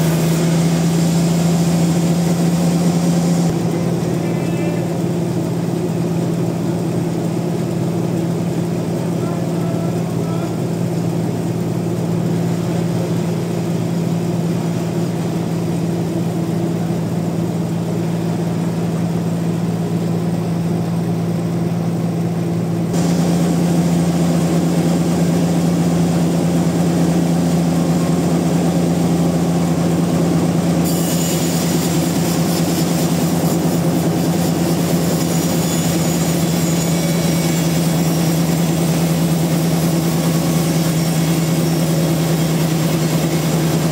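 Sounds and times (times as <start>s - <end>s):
sawmill machinery hum: 0.0s - 43.9s.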